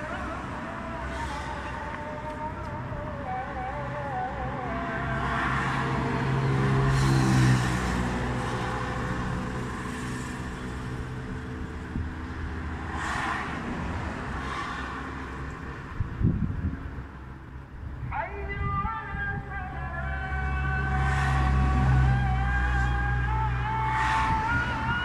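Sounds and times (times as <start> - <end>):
vehicle engine passing: 0.0 - 15.4, 19.8 - 25.0
hum of traffic: 0.0 - 25.0.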